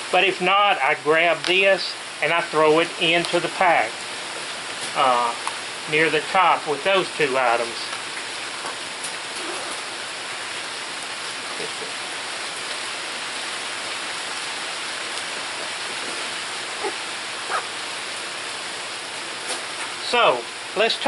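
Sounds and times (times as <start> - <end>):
rain falling steadily: 0.0 - 21.0.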